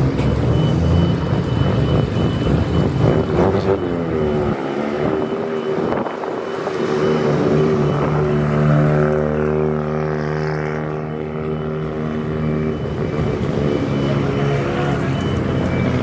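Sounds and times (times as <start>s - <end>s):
car engine humming: 0.0s - 16.0s
road noise: 0.0s - 16.0s.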